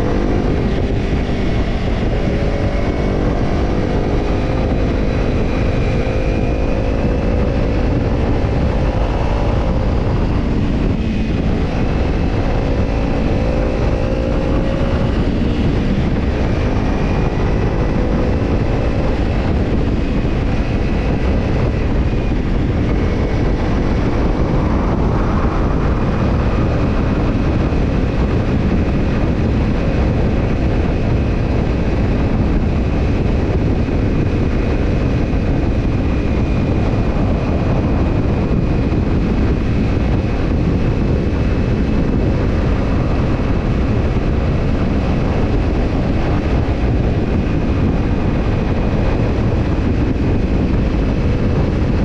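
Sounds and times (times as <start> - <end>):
motorcycle engine running: 0.0 - 52.0
steady rushing noise: 0.0 - 52.0.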